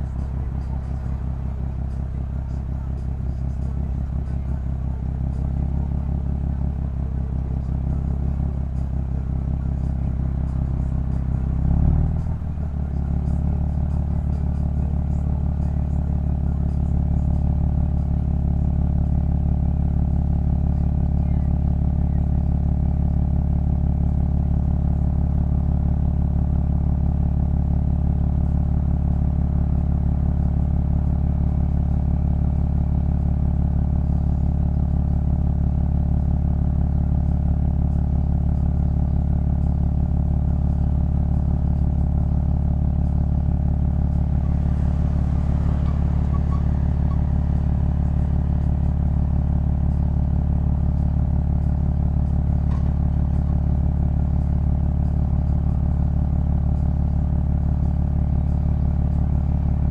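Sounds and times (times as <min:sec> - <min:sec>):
car wind and road noise: 0:00.0 - 0:59.9.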